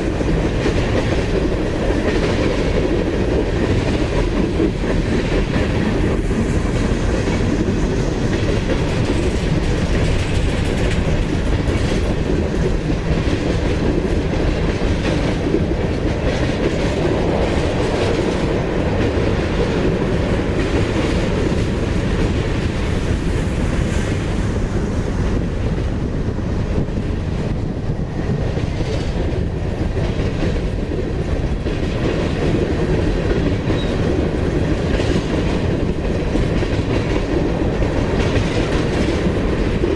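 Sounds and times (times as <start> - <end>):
train wheel clicks: 0.0 - 24.1, 25.0 - 39.9
freight train rumbling past: 0.0 - 39.9.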